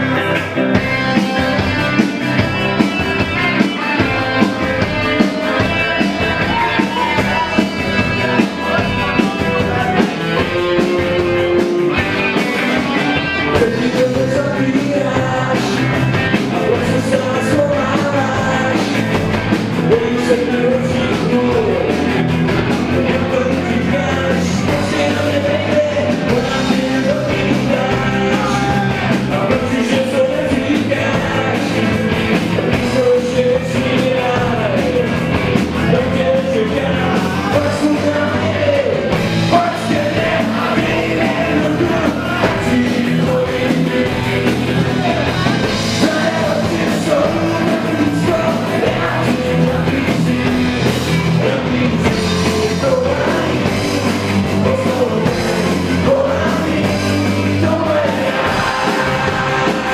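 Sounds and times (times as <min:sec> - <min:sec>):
drums: 0:00.0 - 0:59.9
electric bass: 0:00.0 - 0:59.9
electric guitars: 0:00.0 - 0:59.9
man singing: 0:00.0 - 0:59.9.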